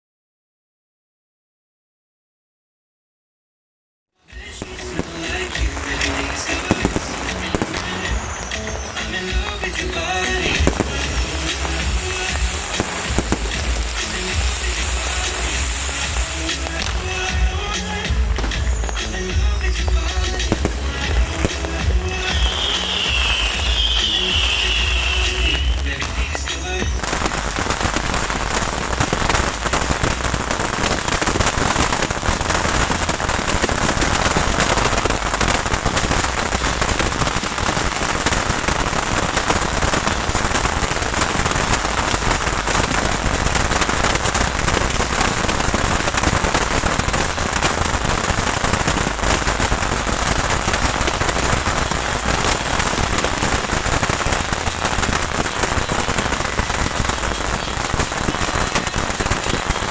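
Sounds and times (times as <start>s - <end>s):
bottle rockets whizzing and popping: 4.4s - 59.9s.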